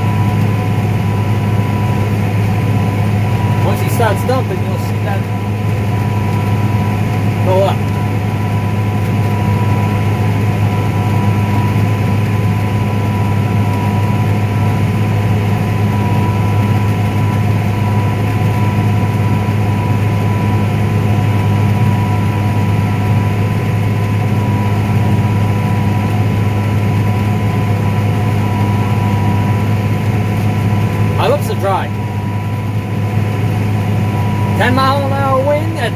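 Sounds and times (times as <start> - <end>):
combine harvester engine hum: 0.0 - 35.9
steady high whine: 0.0 - 35.9.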